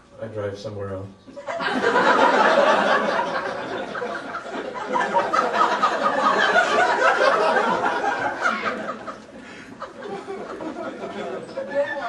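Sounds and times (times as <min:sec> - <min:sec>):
audience laughing: 0:01.4 - 0:12.0.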